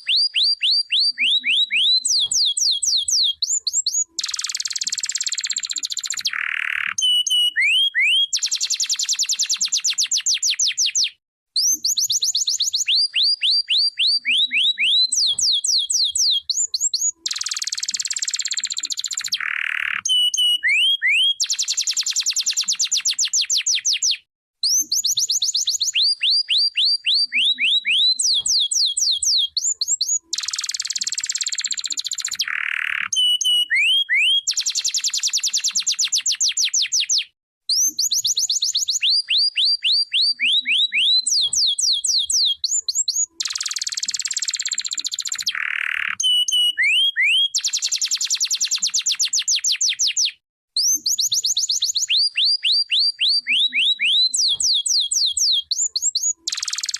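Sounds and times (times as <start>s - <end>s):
canary singing trills: 0.0s - 56.9s.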